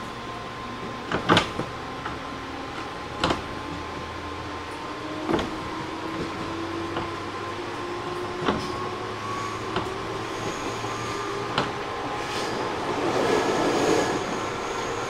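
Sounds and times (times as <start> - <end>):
train motor hum: 0.0 - 15.0.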